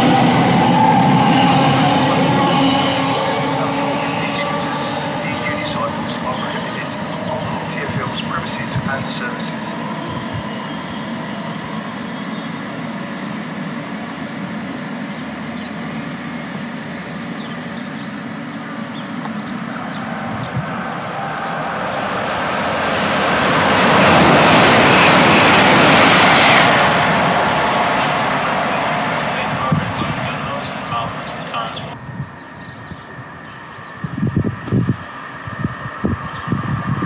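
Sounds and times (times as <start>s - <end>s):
train passing: 0.0s - 37.0s.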